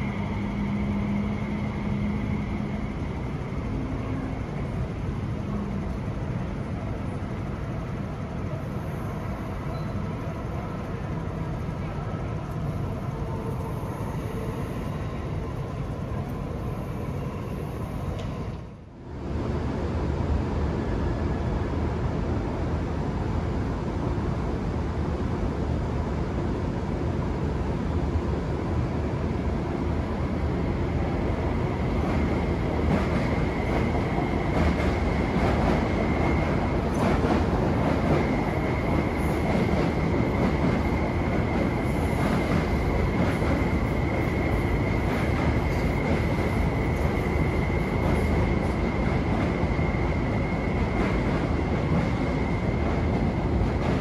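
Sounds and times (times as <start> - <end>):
electric train high whine: 0.0 - 54.0.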